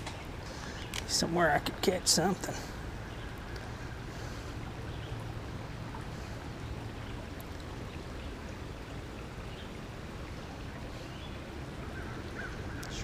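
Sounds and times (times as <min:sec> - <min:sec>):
flowing creek water: 0:00.0 - 0:13.0.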